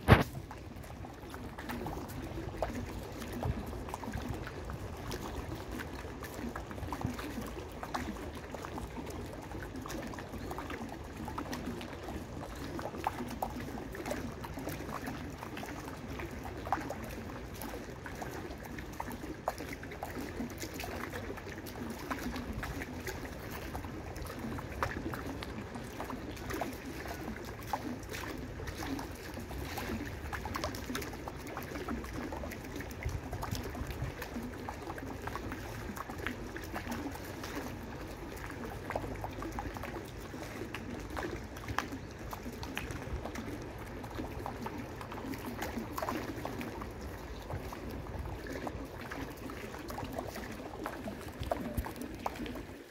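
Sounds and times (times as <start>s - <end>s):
water dripping: 0.0s - 52.9s
water trickling over stone steps: 0.0s - 52.9s.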